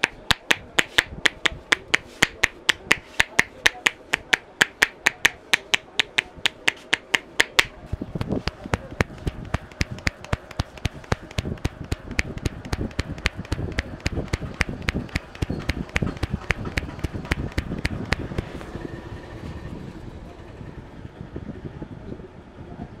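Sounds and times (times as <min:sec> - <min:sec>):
hands tapping on head: 0:00.0 - 0:18.6.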